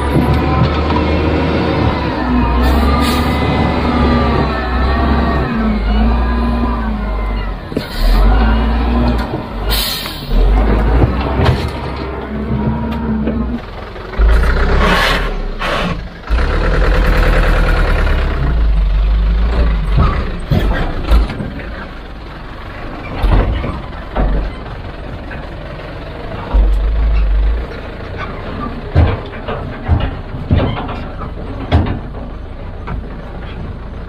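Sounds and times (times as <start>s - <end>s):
heavy machinery engine running: 0.0s - 34.0s.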